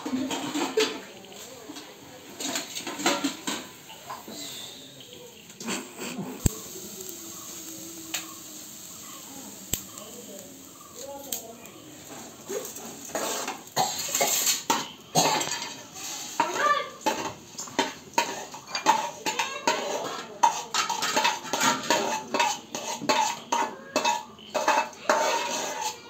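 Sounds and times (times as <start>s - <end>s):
metal pots clattering: 0.0s - 11.0s, 12.0s - 26.0s.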